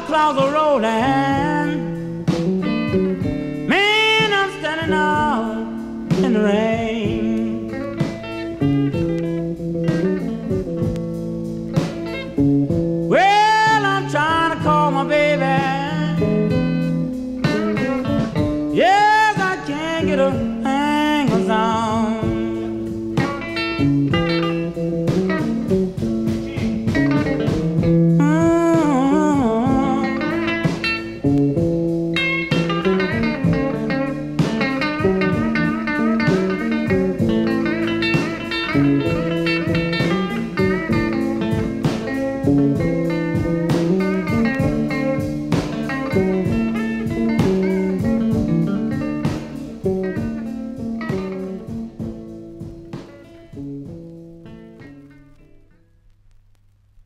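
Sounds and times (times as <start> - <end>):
blues guitar music: 0.0 - 57.0.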